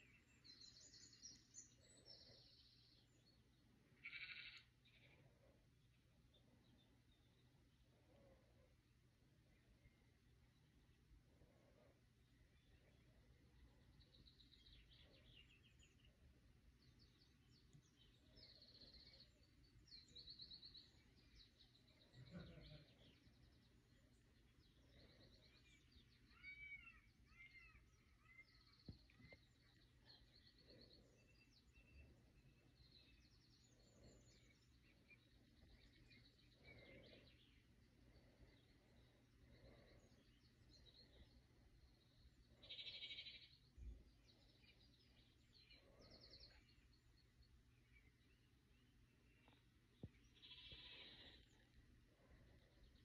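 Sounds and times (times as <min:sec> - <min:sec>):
distant birds chirping and trilling: 0:00.0 - 0:53.0.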